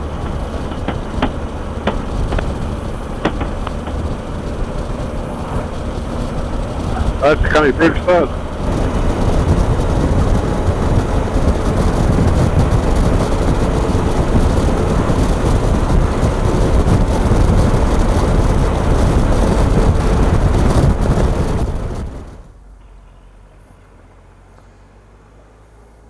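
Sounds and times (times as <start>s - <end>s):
wind noise on microphone: 0.0s - 22.8s
motorcycle engine: 0.0s - 26.0s.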